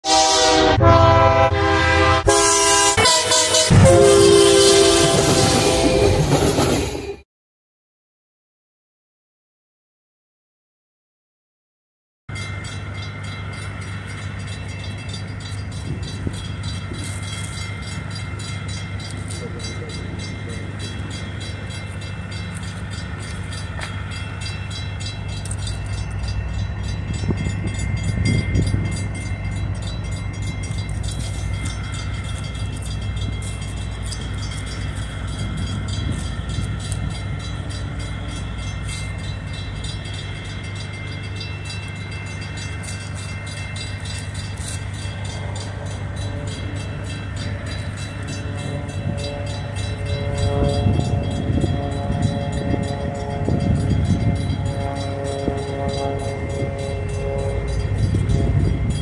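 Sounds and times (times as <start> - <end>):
diesel locomotive engines droning: 0.0 - 7.2, 12.3 - 59.0.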